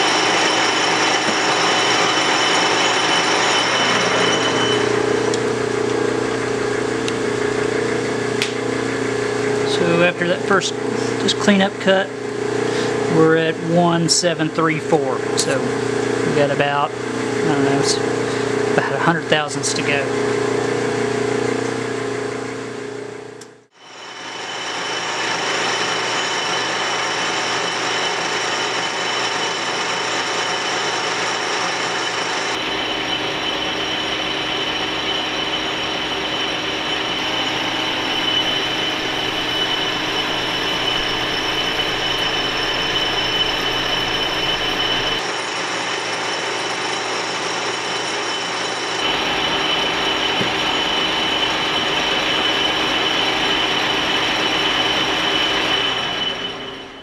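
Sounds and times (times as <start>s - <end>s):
lathe whirring with high whine: 0.0s - 57.0s.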